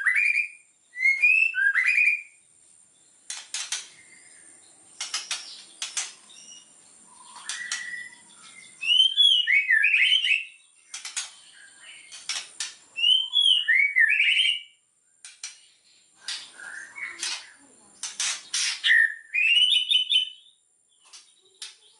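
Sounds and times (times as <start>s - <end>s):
bird singing whistled notes: 0.0s - 3.1s, 4.0s - 12.4s, 13.0s - 17.6s, 18.5s - 21.9s.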